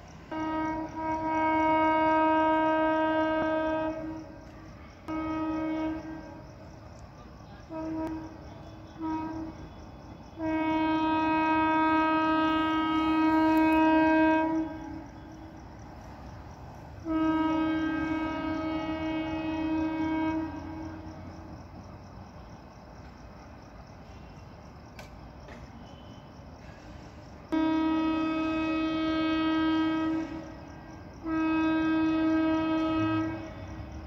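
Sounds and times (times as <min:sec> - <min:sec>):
train horn blasts: 0:00.2 - 0:06.6, 0:07.6 - 0:21.6, 0:25.7 - 0:26.3, 0:26.9 - 0:34.0.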